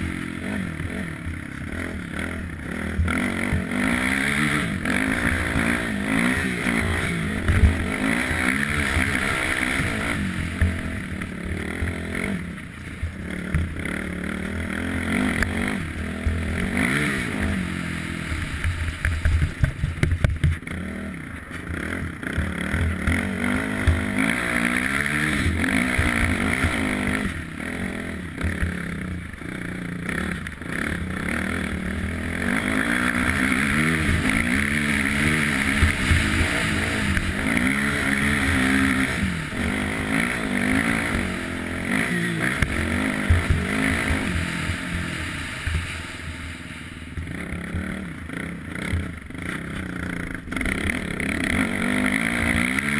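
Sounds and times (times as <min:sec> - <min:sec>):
quad bike engine revving: 0:00.0 - 0:52.9.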